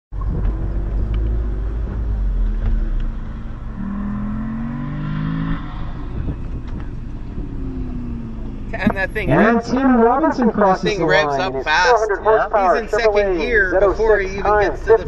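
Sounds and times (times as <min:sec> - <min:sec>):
car engine rumbling and revving: 0:00.1 - 0:15.0.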